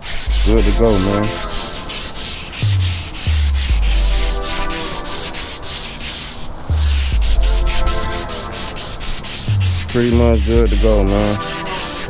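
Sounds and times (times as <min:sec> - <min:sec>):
sandpaper rubbing back and forth: 0:00.0 - 0:12.0
music with deep bass: 0:00.1 - 0:05.6, 0:06.7 - 0:12.0.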